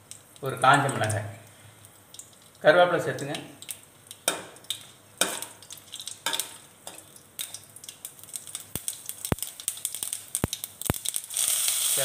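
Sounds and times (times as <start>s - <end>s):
seeds popping in hot oil: 0.0s - 12.0s.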